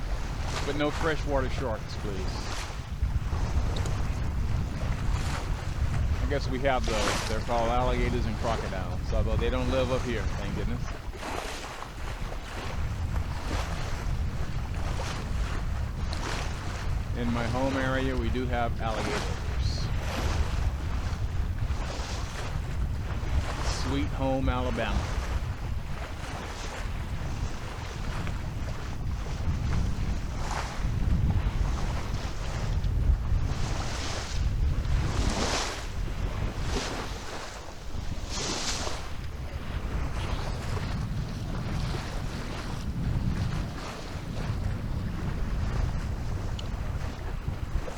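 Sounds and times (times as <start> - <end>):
water rushing along a hull: 0.0 - 47.9
wind buffeting microphone: 0.0 - 47.9.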